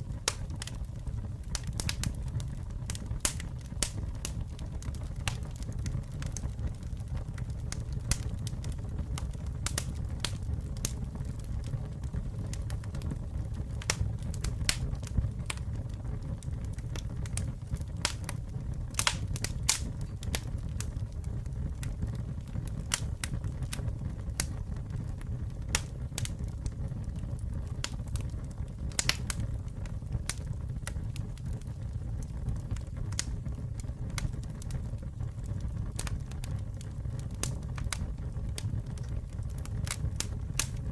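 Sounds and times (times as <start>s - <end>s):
sharp fire snaps: 0.0s - 40.9s
wood fire crackling: 0.0s - 40.9s.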